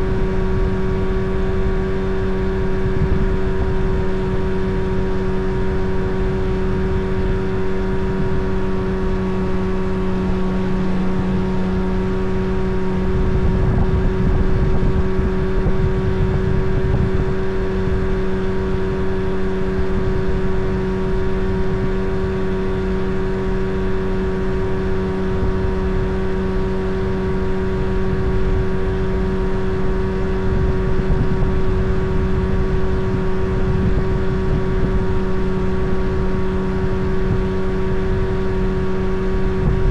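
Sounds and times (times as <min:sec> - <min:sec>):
motorboat engine drone: 0:00.0 - 0:39.9.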